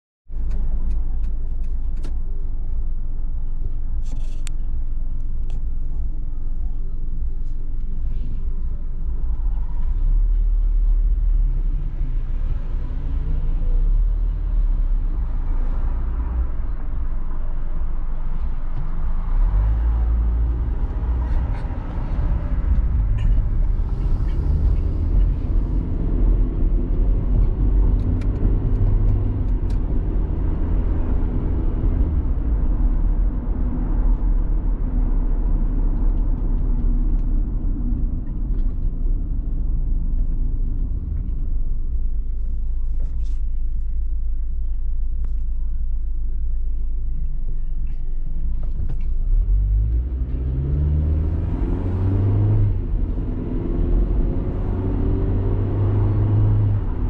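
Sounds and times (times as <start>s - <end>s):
car engine and road rumble: 0.3s - 57.0s.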